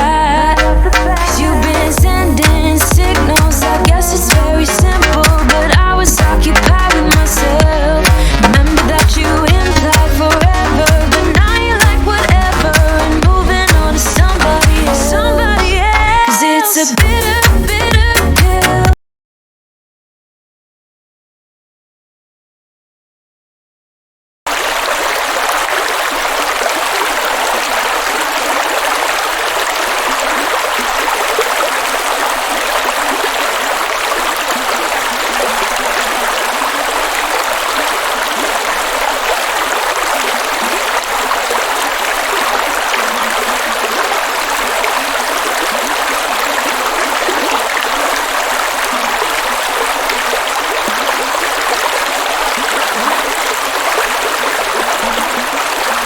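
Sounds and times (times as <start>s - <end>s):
water rushing heavily: 0.0s - 18.8s, 24.5s - 56.0s.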